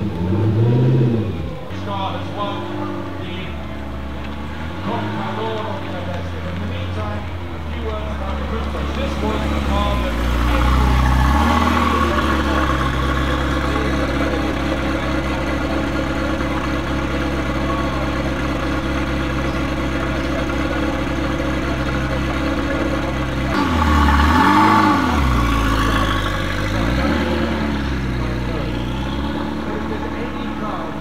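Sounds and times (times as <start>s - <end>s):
car engine at low revs: 0.0s - 31.0s.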